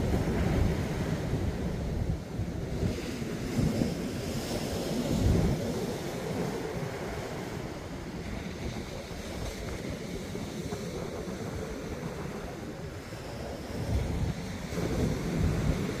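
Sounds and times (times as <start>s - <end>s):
ocean surf breaking: 0.0s - 16.0s
wind rumbling on microphone: 0.0s - 16.0s.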